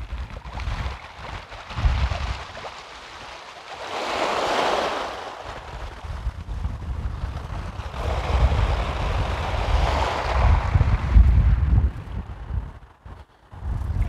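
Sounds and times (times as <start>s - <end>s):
waves washing up beach: 0.0s - 11.6s
wind rumble on microphone: 0.0s - 14.0s.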